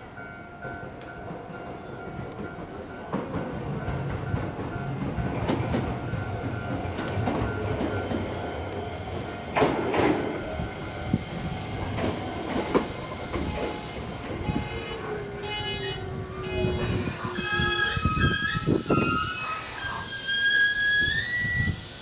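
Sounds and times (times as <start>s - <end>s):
train running rumble: 0.9s - 22.0s.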